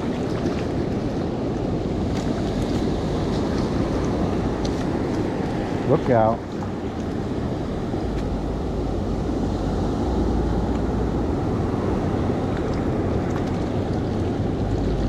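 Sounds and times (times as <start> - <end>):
surf washing: 0.0 - 15.0
wind rumbling on microphone: 0.0 - 15.0.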